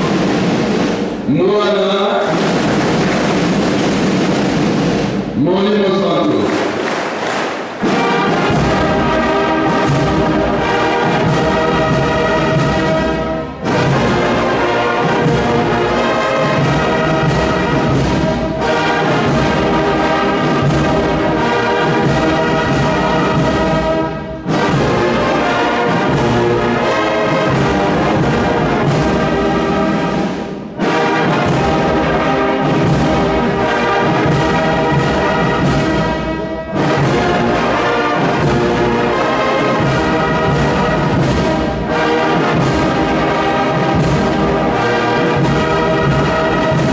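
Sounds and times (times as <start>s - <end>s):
brass band playing: 0.0s - 46.9s.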